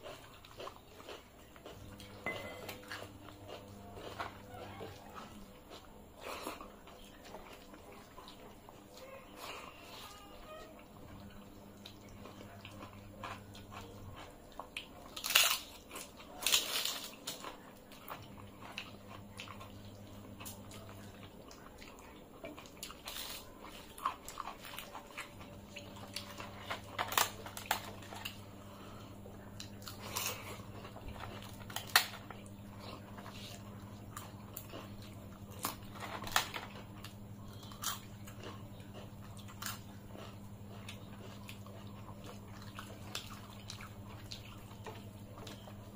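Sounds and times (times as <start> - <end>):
low steady hum: 0.0 - 45.9
person chewing crunchy food: 0.0 - 45.9.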